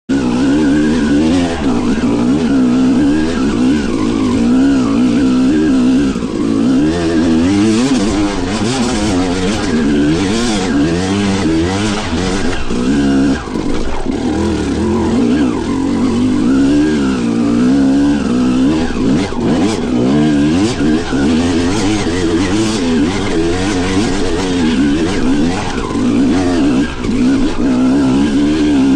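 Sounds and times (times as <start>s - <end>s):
dirt bike engine revving: 0.1s - 28.9s.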